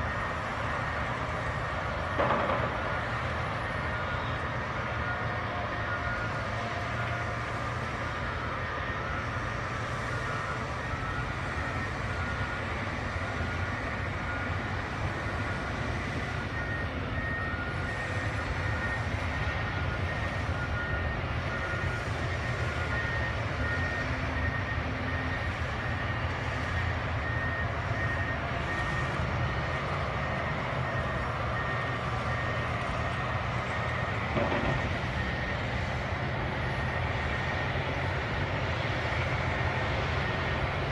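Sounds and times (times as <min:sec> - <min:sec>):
bulldozer diesel engines: 0:00.0 - 0:40.9.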